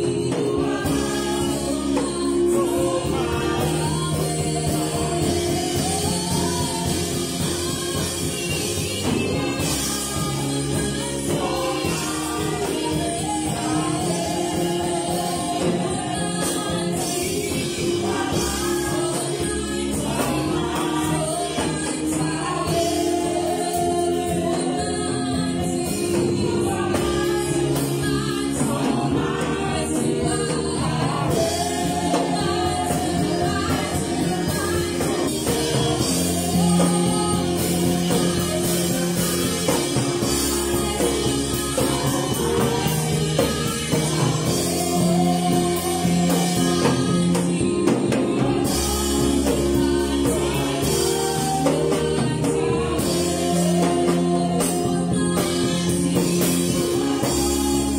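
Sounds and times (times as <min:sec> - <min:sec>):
drum kit: 0:00.0 - 0:57.9
keyboard: 0:00.0 - 0:57.9
voices singing: 0:00.0 - 0:57.9.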